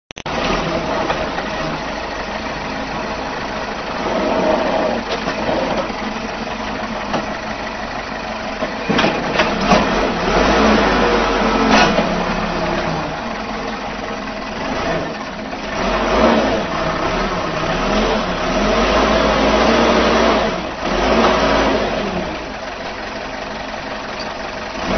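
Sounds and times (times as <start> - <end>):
excavator engine revving: 0.1 - 24.9.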